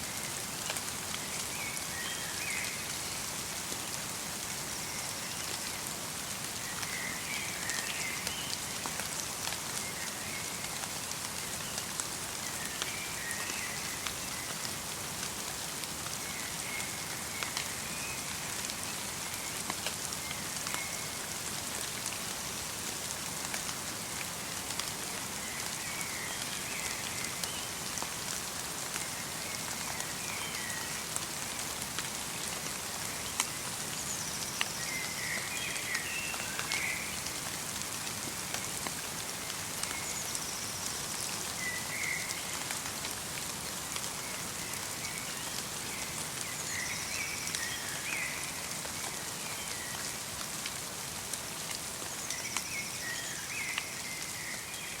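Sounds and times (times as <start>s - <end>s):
light rain with ticking drops: 0.0s - 55.0s.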